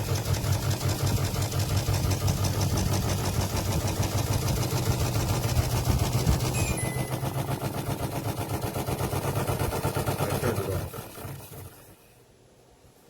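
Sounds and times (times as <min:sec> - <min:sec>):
fan rubbing rattle: 0:00.0 - 0:12.2.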